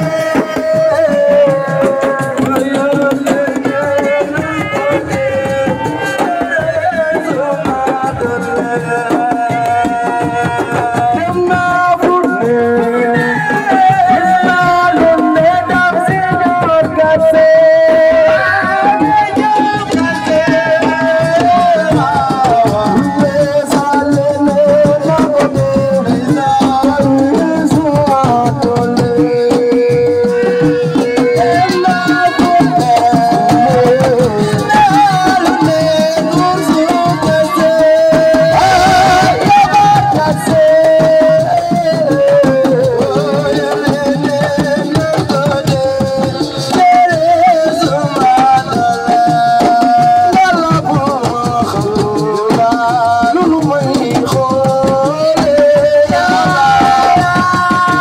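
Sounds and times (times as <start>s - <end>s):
fast dense drumming: 0.0s - 58.0s
lead singer singing: 0.0s - 58.0s.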